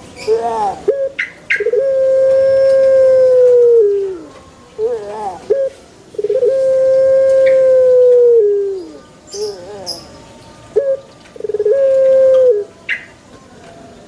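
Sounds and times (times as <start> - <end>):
dove cooing: 0.2 - 10.1, 10.7 - 13.1.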